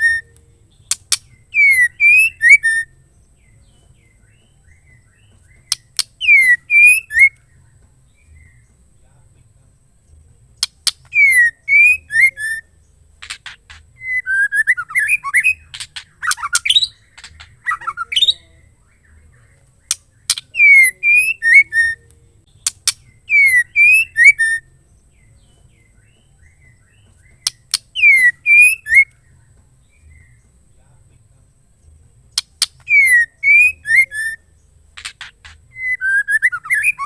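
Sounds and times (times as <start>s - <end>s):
bird calling with whistled notes: 0.0s - 8.8s, 10.6s - 30.6s, 32.4s - 37.0s.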